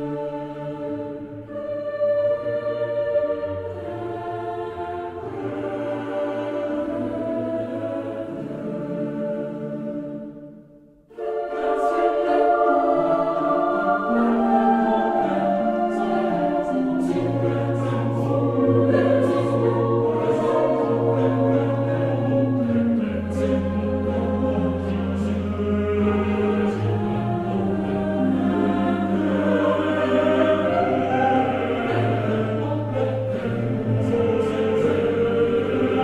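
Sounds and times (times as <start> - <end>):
choir singing slow chords: 0.0 - 36.0.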